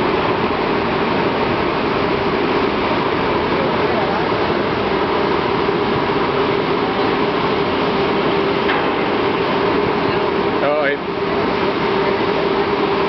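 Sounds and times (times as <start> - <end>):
boat diesel engine droning: 0.0 - 13.0
churning propeller wash: 0.0 - 13.0.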